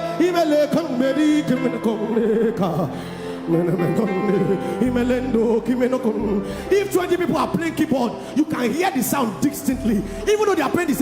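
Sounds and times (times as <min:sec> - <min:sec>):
keyboard chords: 0:00.0 - 0:11.0
man preaching: 0:00.0 - 0:11.0.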